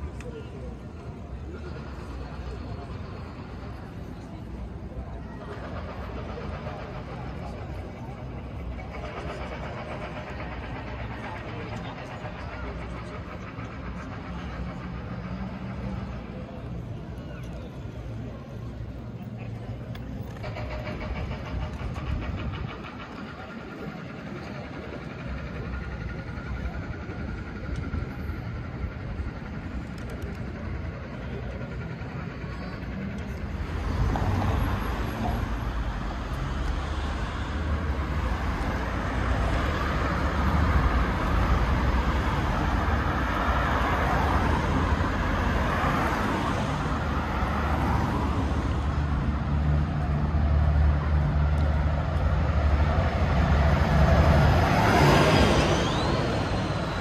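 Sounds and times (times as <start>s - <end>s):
bus engine running: 0.0s - 57.0s
cars passing on a street: 0.0s - 57.0s
street ambience: 0.0s - 57.0s.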